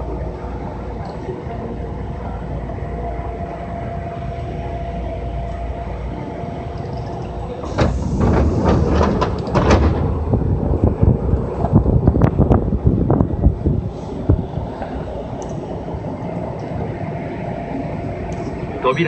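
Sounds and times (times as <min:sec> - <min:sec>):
train equipment hum: 0:00.0 - 0:19.0
train doors opening: 0:02.8 - 0:18.7.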